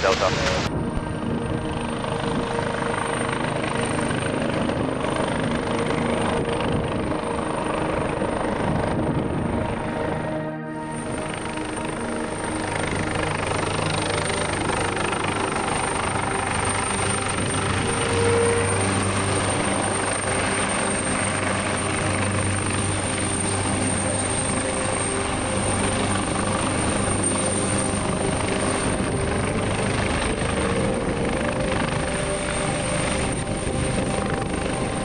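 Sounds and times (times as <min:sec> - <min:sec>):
helicopter hovering: 0:00.0 - 0:35.0
high turbine whine: 0:00.0 - 0:35.0.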